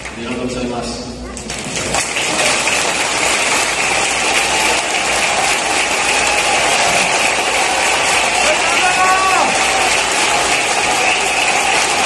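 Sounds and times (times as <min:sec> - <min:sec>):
crowd clapping: 0:00.0 - 0:00.4, 0:01.2 - 0:12.0
stadium crowd cheering: 0:01.4 - 0:12.0.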